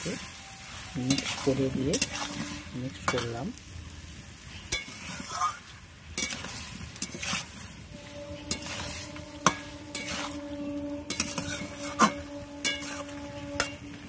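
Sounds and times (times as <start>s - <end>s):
metal spatula scraping pan: 0.0s - 3.4s, 4.7s - 14.0s
oil sizzling: 0.0s - 14.0s.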